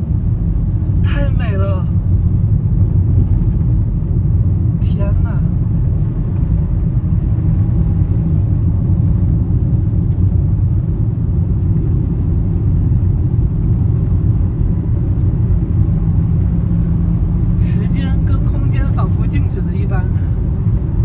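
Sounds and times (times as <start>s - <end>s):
car driving heard from inside: 0.0s - 21.0s.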